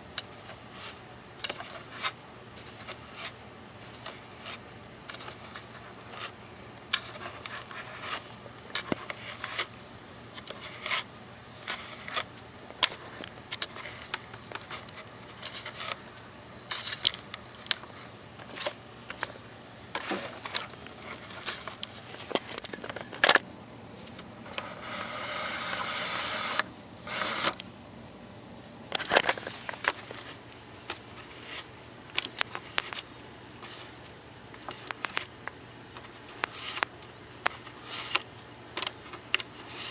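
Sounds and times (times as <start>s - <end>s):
rustling and scraping of handled things: 0.0s - 27.6s, 28.6s - 39.9s.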